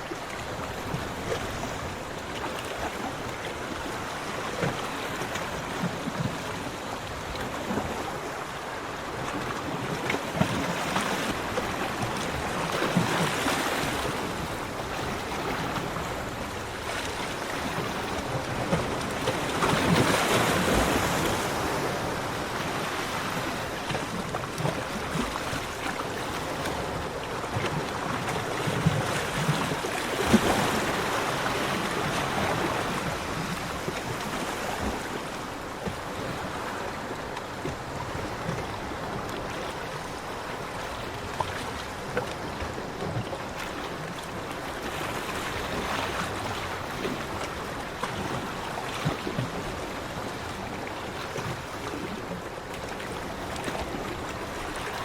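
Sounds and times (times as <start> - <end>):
waves breaking: 0.0 - 55.0.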